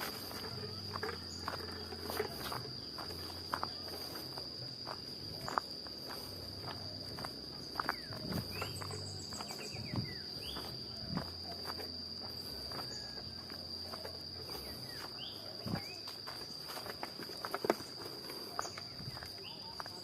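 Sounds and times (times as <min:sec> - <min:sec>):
footsteps: 0:00.0 - 0:20.0
insects trilling: 0:00.0 - 0:20.0.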